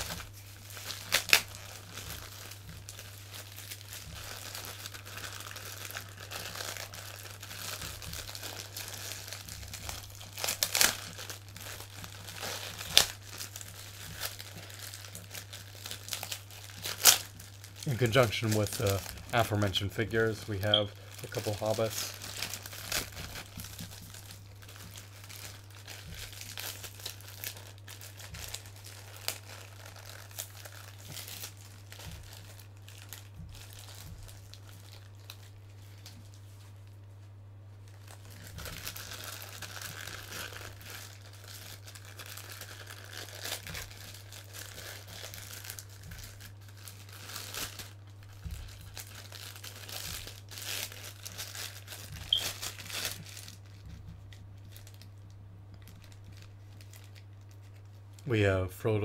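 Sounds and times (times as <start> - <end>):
packing wrap crinkling and tearing: 0.0 - 37.1, 37.8 - 58.4
low electrical hum: 0.0 - 59.0.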